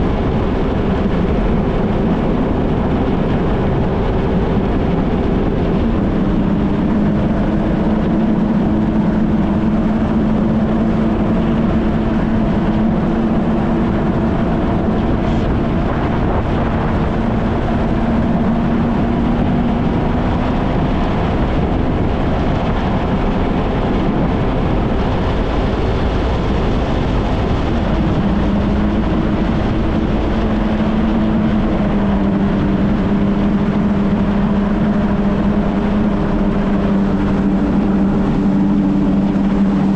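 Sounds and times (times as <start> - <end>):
jet ski engine running: 0.0 - 39.9
water rushing: 0.0 - 39.9
wind rush: 0.0 - 39.9.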